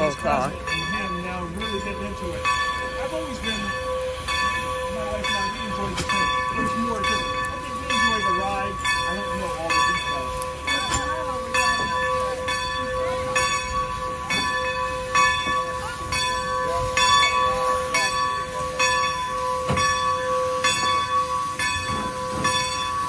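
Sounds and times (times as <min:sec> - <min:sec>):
locomotive bell ringing: 0:00.0 - 0:23.0
steam hissing: 0:00.0 - 0:23.0.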